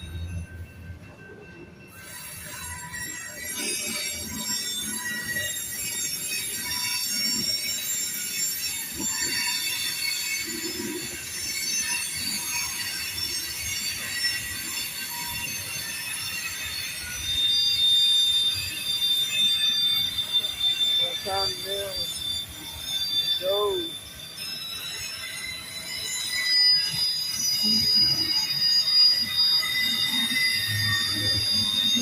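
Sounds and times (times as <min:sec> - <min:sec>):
train wheels squealing on rails: 0:00.0 - 0:32.0.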